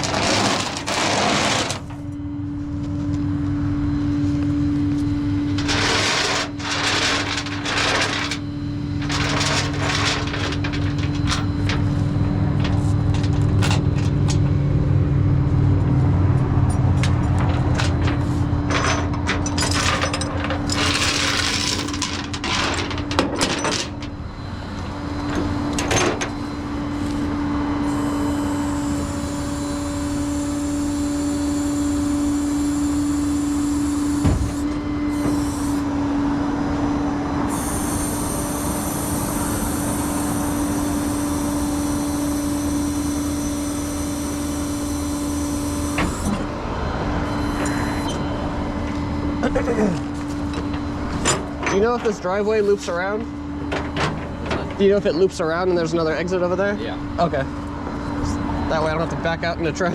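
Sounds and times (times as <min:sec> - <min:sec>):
truck engine droning: 0:00.0 - 0:59.9.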